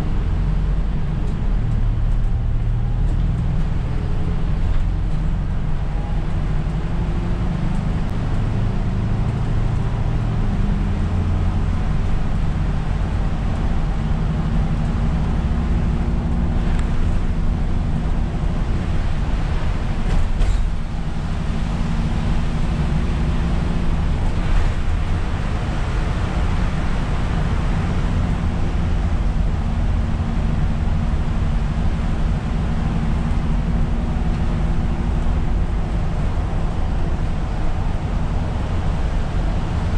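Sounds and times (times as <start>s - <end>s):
diesel bus engine hum: 0.0s - 39.9s.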